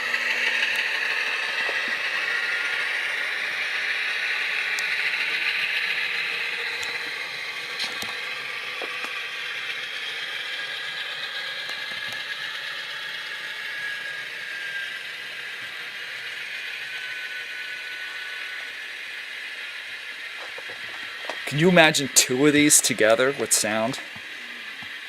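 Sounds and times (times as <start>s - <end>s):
diesel engine sound from small speaker: 0.0s - 25.0s
whir of drive mechanism: 0.0s - 25.0s.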